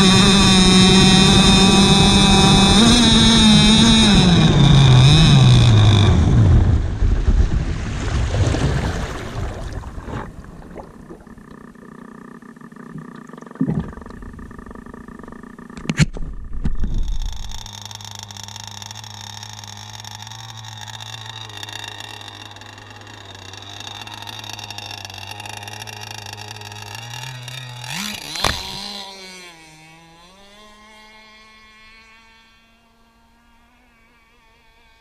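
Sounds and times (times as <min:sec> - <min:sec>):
model boat engine idling: 0:00.0 - 0:07.0, 0:10.3 - 0:35.0
boat engine revving up: 0:00.0 - 0:35.0.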